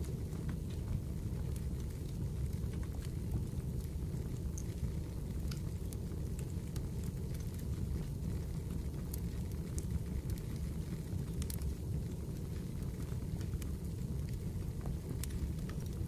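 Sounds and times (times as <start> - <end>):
fire burning rumble: 0.0 - 16.0
fire popping: 0.0 - 16.0.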